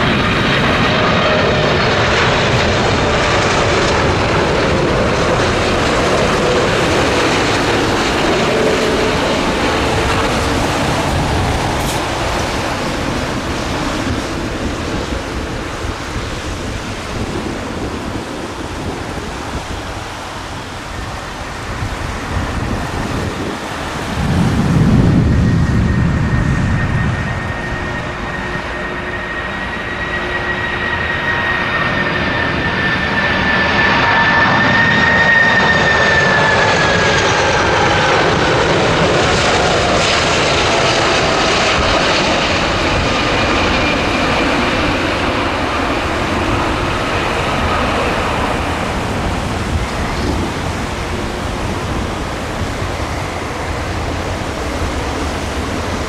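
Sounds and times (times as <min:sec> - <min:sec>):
jet engines passing overhead: 0:00.0 - 0:56.0.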